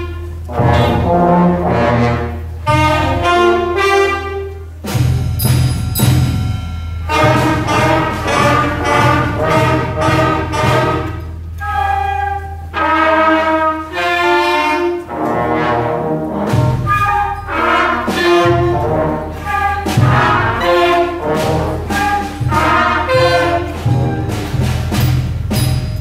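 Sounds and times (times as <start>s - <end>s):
concert band playing: 0.0s - 26.0s.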